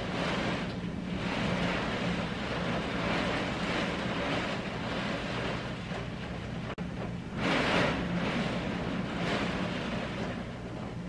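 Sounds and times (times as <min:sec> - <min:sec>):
steady low hum: 0:00.0 - 0:11.0
wind and rain buffeting window: 0:00.0 - 0:11.0.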